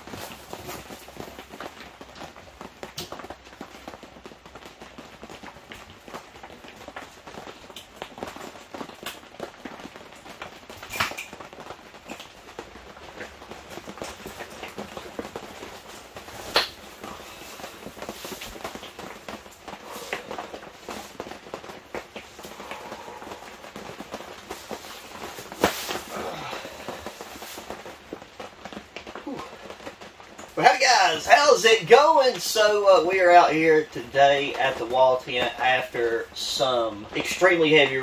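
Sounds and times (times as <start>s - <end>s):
rain pattering on canvas tent: 0.0s - 38.0s.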